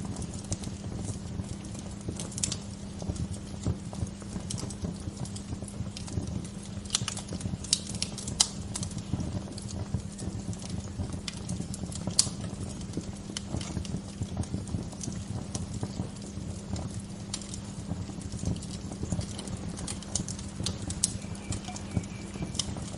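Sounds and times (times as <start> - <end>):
low fire rumble: 0.0 - 22.9
wood fire crackling and popping: 0.0 - 22.9.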